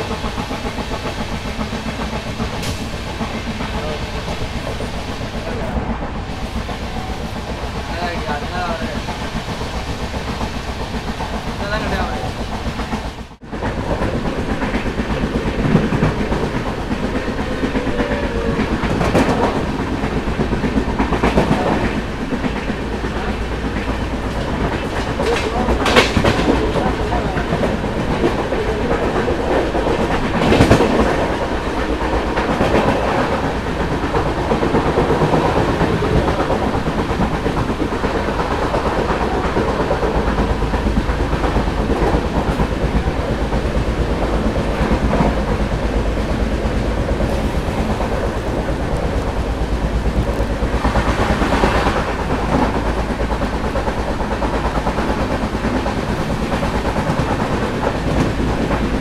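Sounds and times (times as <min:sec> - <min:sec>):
clickety-clack over rail joints: 0:00.0 - 0:59.0
train rushing: 0:00.0 - 0:59.0
train wheels rumbling on rails: 0:00.0 - 0:59.0.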